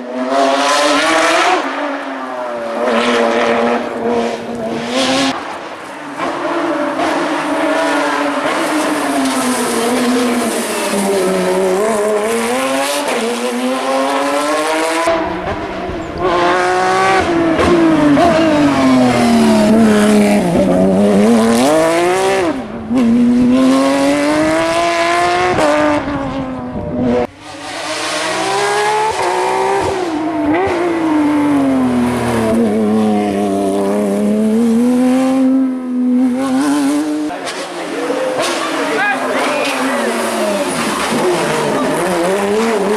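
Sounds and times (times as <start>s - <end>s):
racing engine accelerating and braking: 0.0s - 42.9s.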